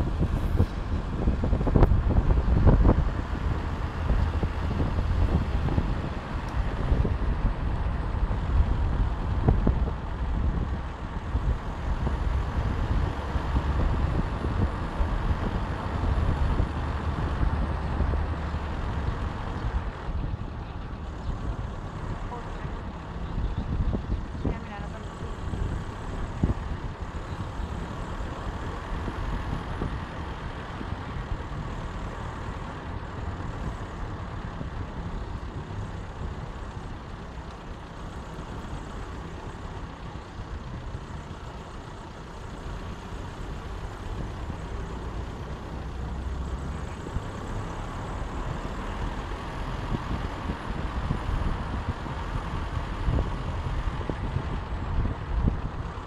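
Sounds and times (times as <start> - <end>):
car engine and tyre noise: 0.0 - 56.0
heavy low rumble: 0.0 - 56.0.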